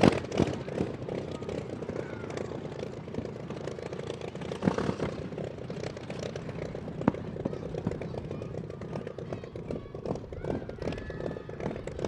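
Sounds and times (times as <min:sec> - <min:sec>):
aero engine running: 0:00.0 - 0:12.0.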